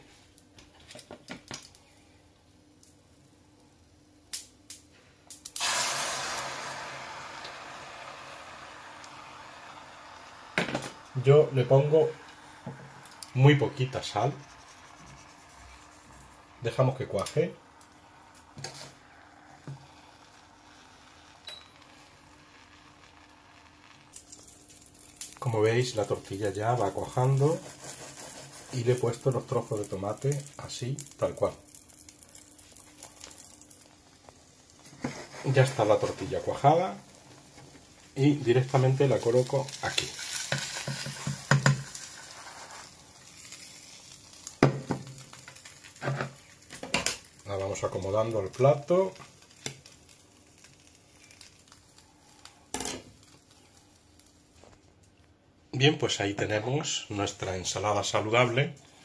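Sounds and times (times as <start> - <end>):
egg sizzling in pan: 5.3 - 54.8.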